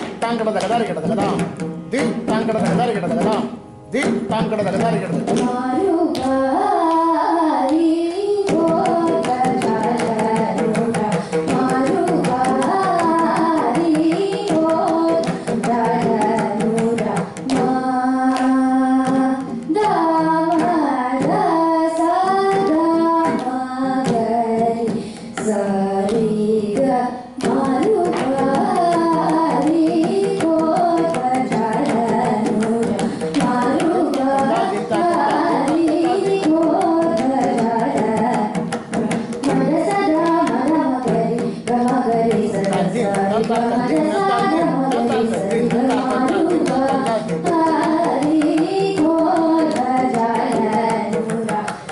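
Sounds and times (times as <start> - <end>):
hand drum strokes: 0.0 - 51.9
girl singing: 5.3 - 51.9.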